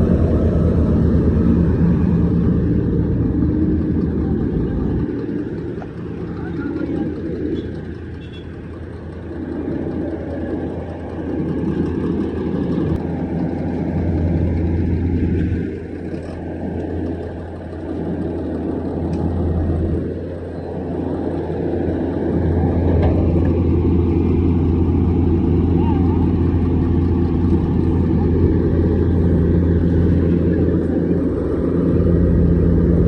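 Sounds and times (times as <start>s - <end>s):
vehicles passing on street: 0.0s - 33.0s.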